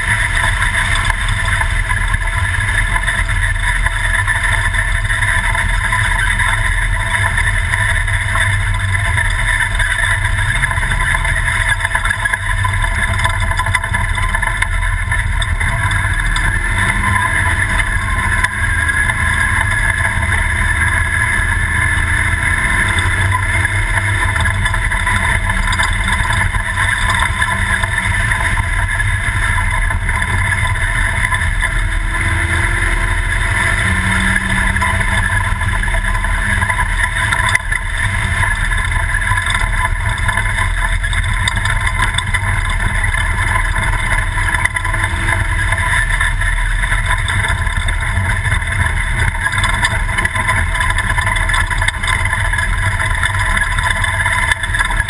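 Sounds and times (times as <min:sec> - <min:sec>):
race truck driving off-road: 0:00.0 - 0:55.0.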